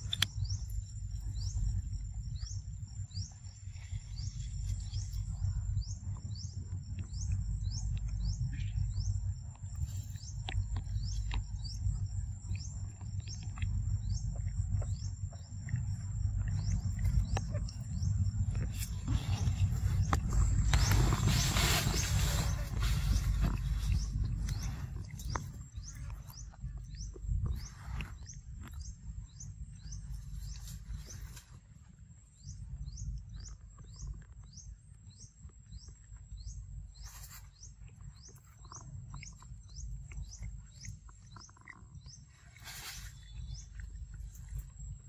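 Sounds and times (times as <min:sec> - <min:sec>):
bird chirping: 0:00.0 - 0:31.6, 0:32.3 - 0:45.0
low rumble: 0:00.0 - 0:45.0.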